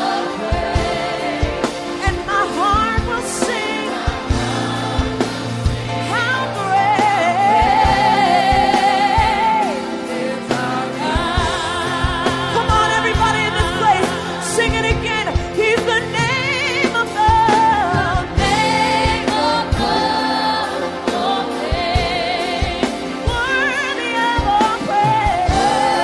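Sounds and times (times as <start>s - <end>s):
band with drums: 0.0s - 26.0s
gospel singing: 0.0s - 26.0s.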